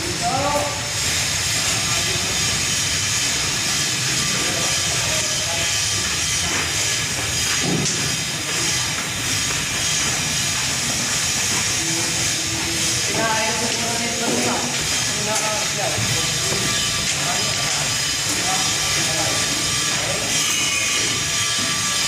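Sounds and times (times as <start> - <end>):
steady loud hiss: 0.0 - 22.0.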